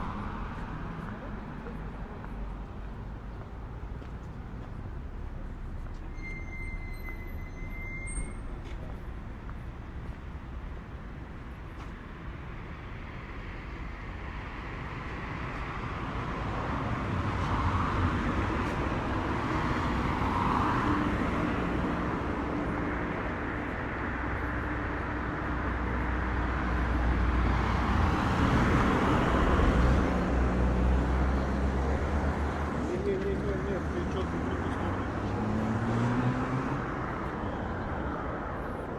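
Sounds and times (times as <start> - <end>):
cars rumbling on street: 0.0 - 38.9.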